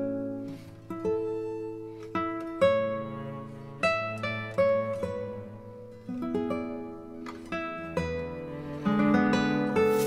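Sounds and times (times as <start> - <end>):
acoustic guitar plucked chords: 0.0 - 10.0.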